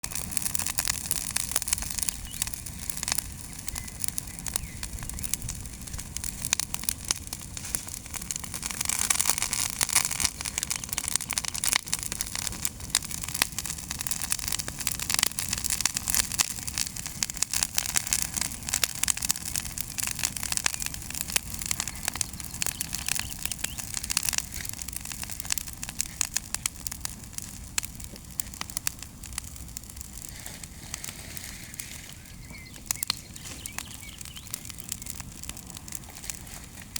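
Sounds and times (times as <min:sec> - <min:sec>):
bonfire crackling and popping: 0:00.0 - 0:36.9.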